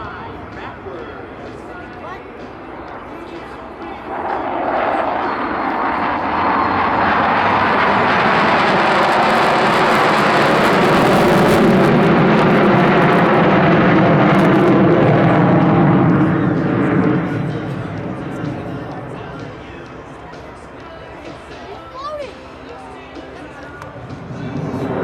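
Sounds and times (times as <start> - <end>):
fighter jet flying past: 0.0 - 21.6, 23.9 - 25.0.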